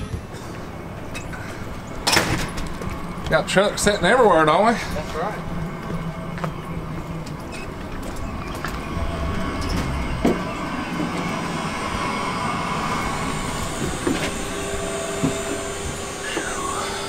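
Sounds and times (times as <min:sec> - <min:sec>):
steady humming tone: 0:00.0 - 0:17.0
truck mechanical hum: 0:00.0 - 0:17.0.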